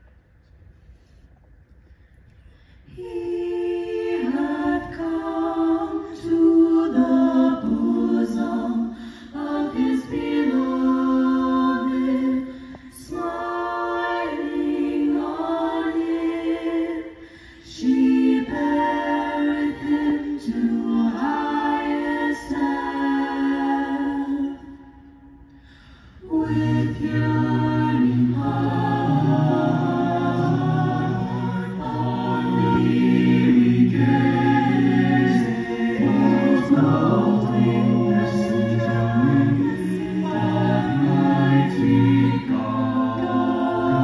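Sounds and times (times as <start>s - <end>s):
a cappella group singing in harmony: 2.7s - 44.0s.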